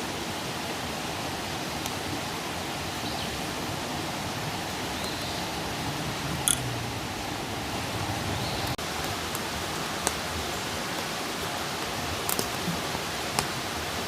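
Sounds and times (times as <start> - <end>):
campfire hissing: 0.0 - 14.0
fire crackle: 1.3 - 14.0.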